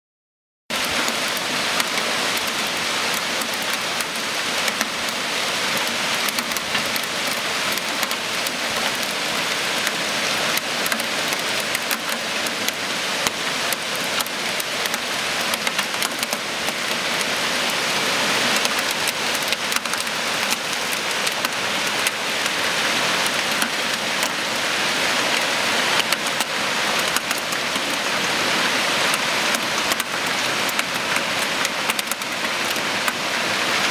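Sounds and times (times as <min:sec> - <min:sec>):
hail and heavy rain: 0:00.7 - 0:33.9.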